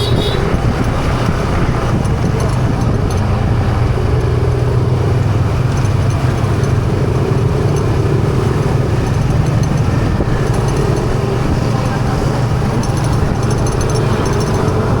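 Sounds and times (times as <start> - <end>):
road and traffic noise: 0.0 - 15.0
small motorcycle engine running: 0.0 - 15.0.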